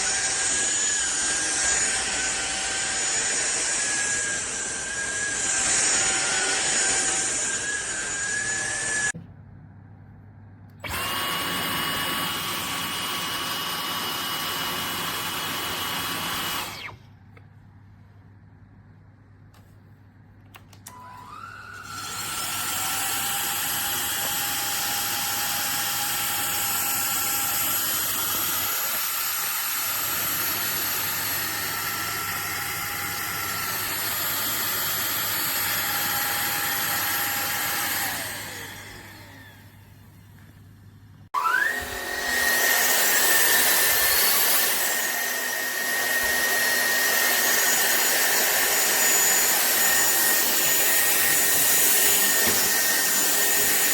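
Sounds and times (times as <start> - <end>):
vacuum cleaner motor whining: 0.0 - 9.2, 10.8 - 17.1, 20.8 - 40.4, 41.3 - 53.9.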